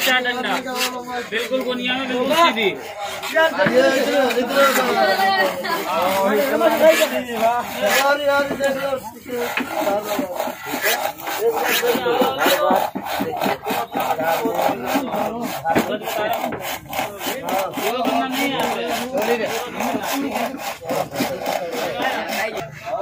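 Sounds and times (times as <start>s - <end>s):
hand saw cutting wood: 0.0s - 23.0s.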